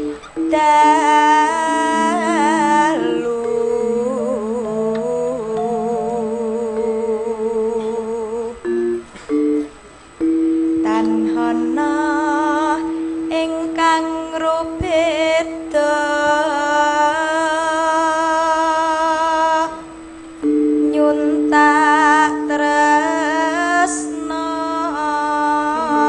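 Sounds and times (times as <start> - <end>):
woman singing with vibrato: 0.0 - 9.1, 10.5 - 26.0
held accompaniment notes: 0.0 - 26.0.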